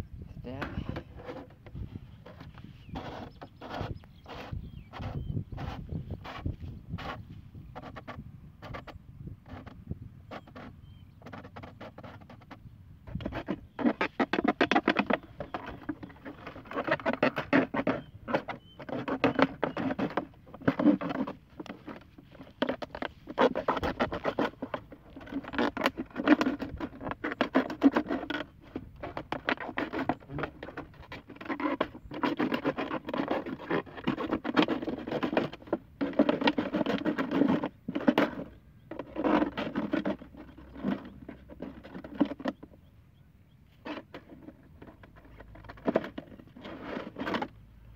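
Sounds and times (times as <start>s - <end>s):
knife sawing through plastic bottle: 0.7s - 7.2s, 7.8s - 42.6s, 43.8s - 47.6s.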